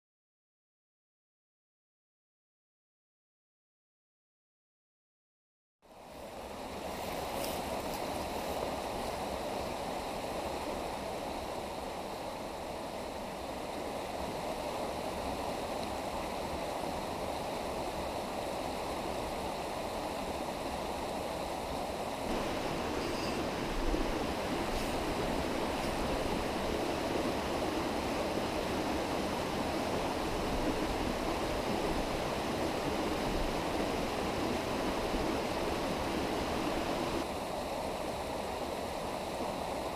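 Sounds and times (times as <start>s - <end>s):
stream rushing over rocks: 6.1s - 39.9s.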